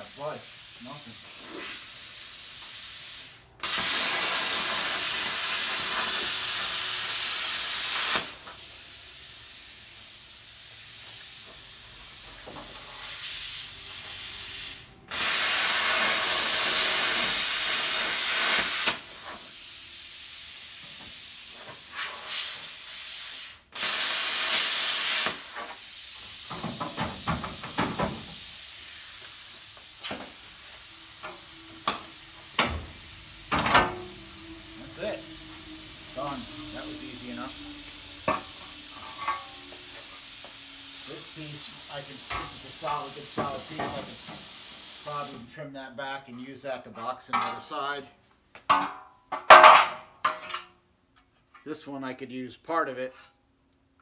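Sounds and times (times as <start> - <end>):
plasma cutter hissing: 0.0 - 45.5.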